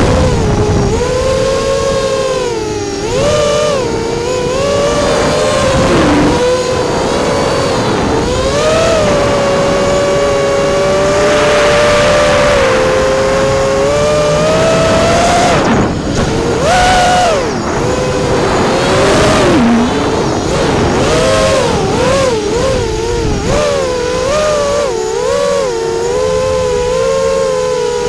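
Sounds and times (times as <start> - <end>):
rush of prop wash: 0.0 - 27.9
quadcopter motors whining: 0.0 - 28.0.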